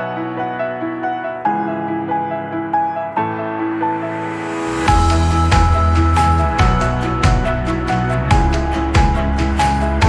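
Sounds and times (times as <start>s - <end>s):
keyboard music: 0.0s - 10.0s.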